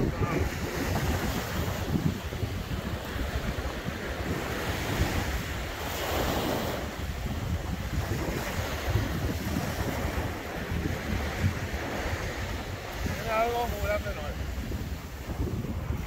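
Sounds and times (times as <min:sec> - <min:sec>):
waves breaking on beach: 0:00.0 - 0:16.0
wind buffeting microphone: 0:00.0 - 0:16.0.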